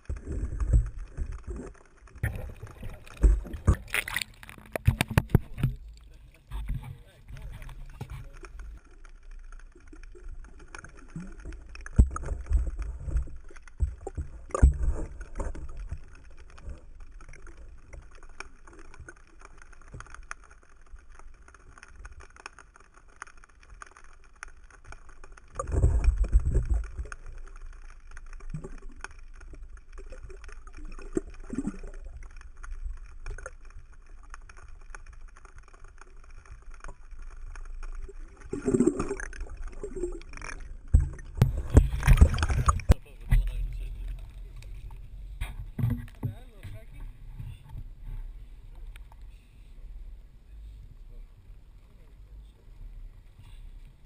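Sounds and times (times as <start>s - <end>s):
water and wind noise: 0.0s - 24.0s, 25.4s - 54.0s.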